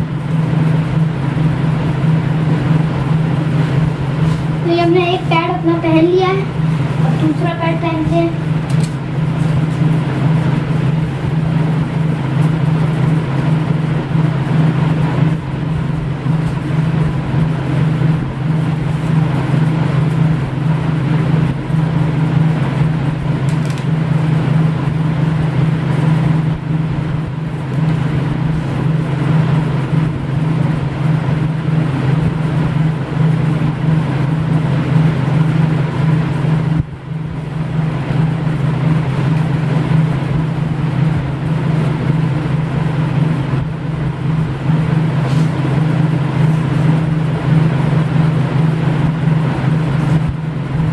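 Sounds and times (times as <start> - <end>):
constant rushing noise: 0.0 - 50.9
low motor hum: 0.0 - 50.9.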